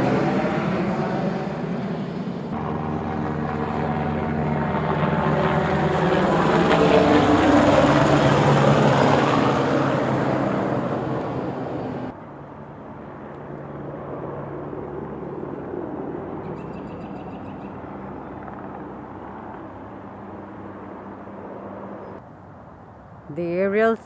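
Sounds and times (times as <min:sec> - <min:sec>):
distant drone: 0:00.0 - 0:22.9
helicopter flying past: 0:00.0 - 0:24.0.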